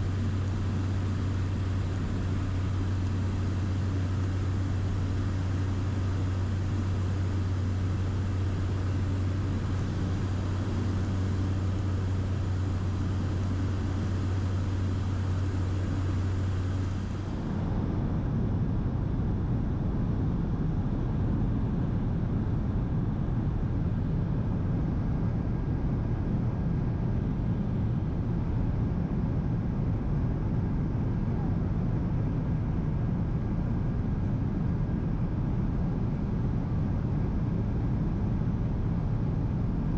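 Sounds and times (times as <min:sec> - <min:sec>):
propeller plane cabin drone: 0:00.0 - 0:39.9.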